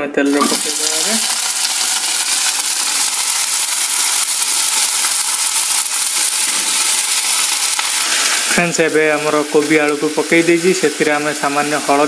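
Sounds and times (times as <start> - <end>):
vegetables sizzling in hot oil: 0.3 - 12.0.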